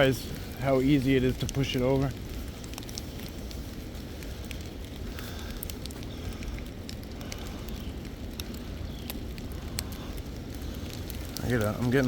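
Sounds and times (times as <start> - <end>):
ticks and crackles: 0.0 - 12.0
wind rumbling on microphone: 0.0 - 12.0.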